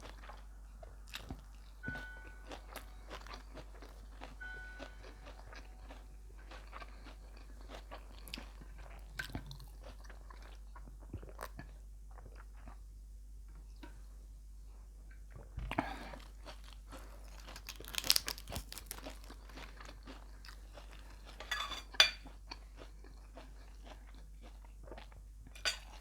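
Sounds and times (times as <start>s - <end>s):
chewing and crunching food: 0.0s - 14.1s, 14.7s - 26.0s
steady low hum: 0.0s - 26.0s.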